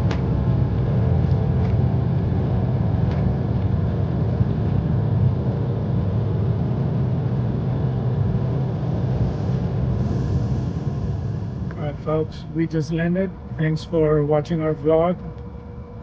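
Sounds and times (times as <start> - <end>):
jet cabin low rumble: 0.0 - 16.0.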